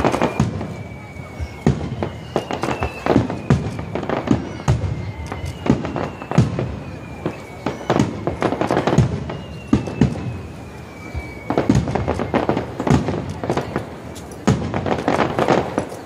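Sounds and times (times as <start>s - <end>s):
falling firework whistle: 0.0s - 16.0s
fireworks shells bursting: 0.0s - 16.0s.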